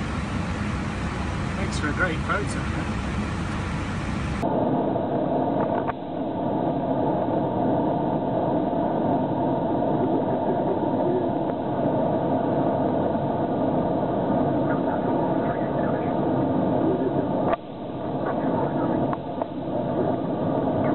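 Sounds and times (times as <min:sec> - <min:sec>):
aircraft cockpit engine and airflow noise: 0:00.0 - 0:20.9.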